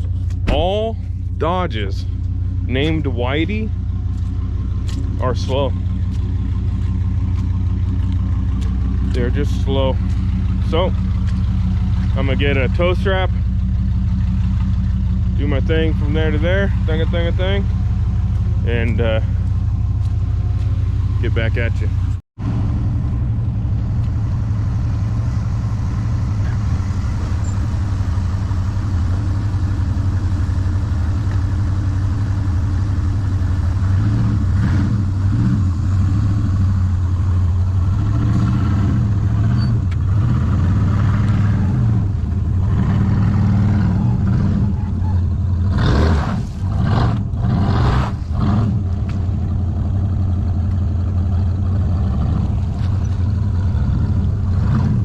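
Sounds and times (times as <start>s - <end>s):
pickup truck engine running: 0.0s - 55.0s.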